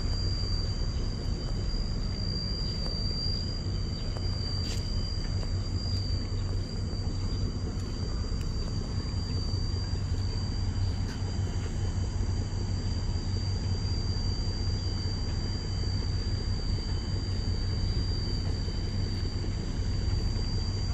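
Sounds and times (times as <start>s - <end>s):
low outdoor rumble: 0.0s - 20.9s
thin high-pitched whine: 0.0s - 20.9s.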